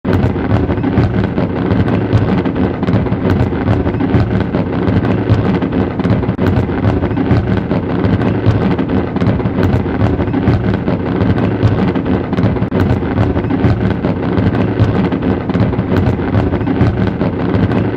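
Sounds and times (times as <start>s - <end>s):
fireworks bursting: 0.0s - 17.9s
sharp crackles and pops: 0.0s - 17.9s.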